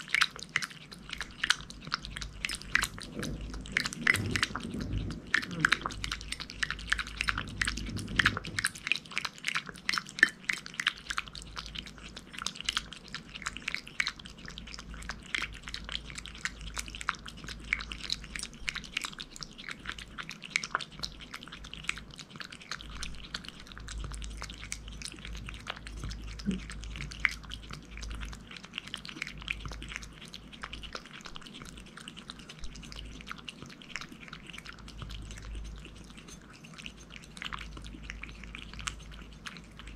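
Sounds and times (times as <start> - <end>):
cat lapping from a bowl: 0.0 - 39.9.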